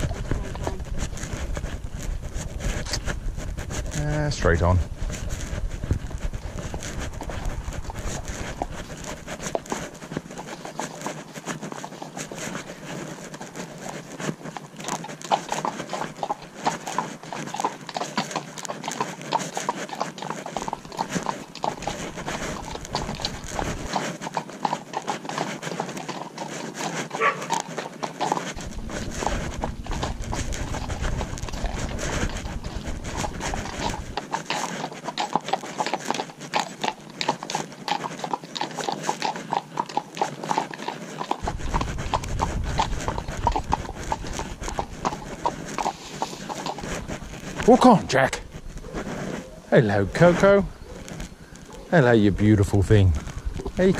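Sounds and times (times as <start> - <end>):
horse hooves clip-clopping: 0.0 - 53.9.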